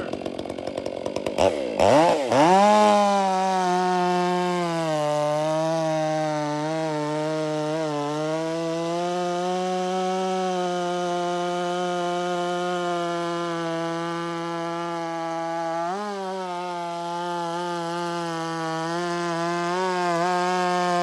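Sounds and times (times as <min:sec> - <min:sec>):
chainsaw cutting log: 0:00.0 - 0:21.0.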